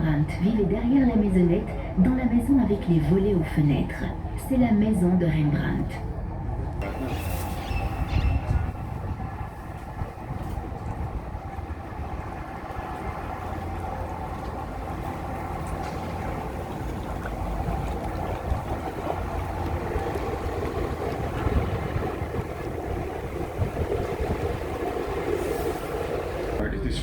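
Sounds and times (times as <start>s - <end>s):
boat low rumble: 0.0s - 27.0s.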